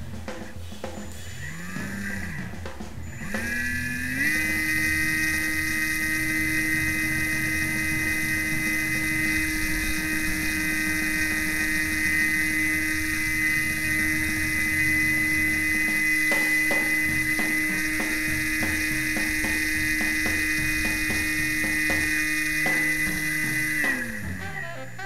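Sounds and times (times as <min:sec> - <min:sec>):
model boat electric motor whine: 0:01.1 - 0:25.0.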